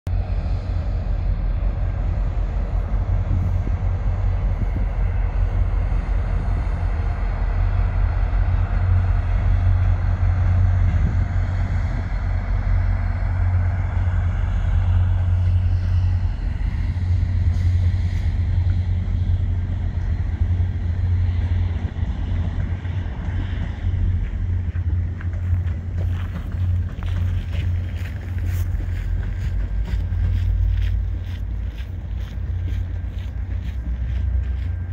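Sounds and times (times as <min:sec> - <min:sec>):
train rumbling over bridge: 0:00.0 - 0:34.9.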